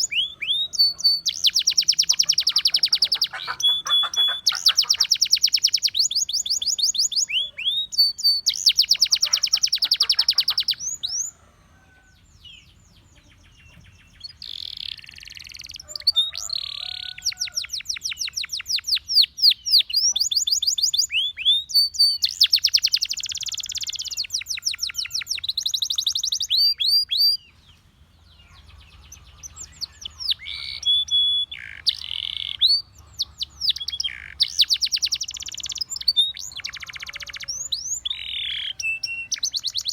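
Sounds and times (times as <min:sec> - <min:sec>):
canary singing trills: 0:00.0 - 0:11.5, 0:12.1 - 0:39.9.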